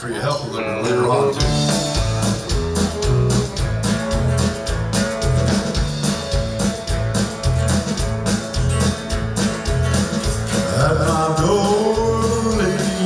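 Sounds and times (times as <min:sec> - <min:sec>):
country band playing: 0:00.0 - 0:13.0.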